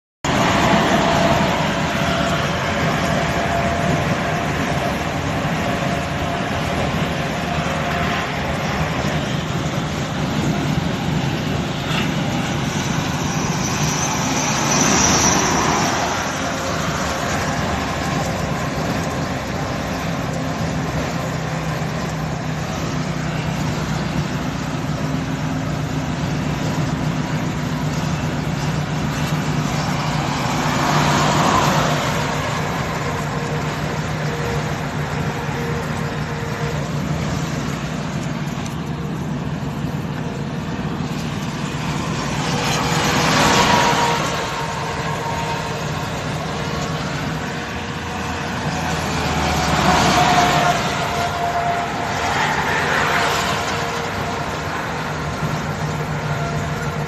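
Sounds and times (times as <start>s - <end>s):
rushing noise: 0.2s - 57.0s
truck engine hum: 0.2s - 57.0s
tyre noise on wet road: 0.2s - 57.0s.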